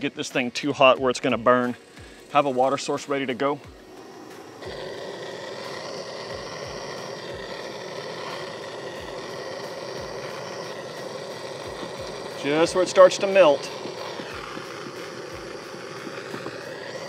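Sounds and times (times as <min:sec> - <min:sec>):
gas torch hissing roar: 0:01.5 - 0:17.0.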